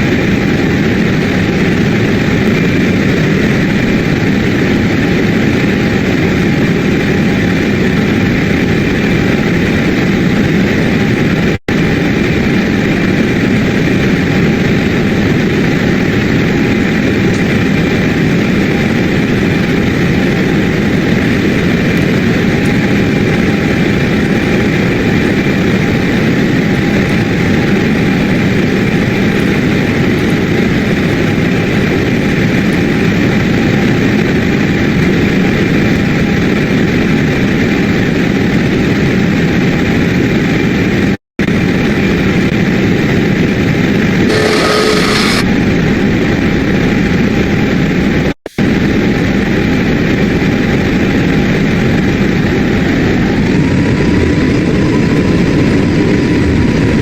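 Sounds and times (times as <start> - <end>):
jet engines roaring with high whine: 0.0 - 57.0.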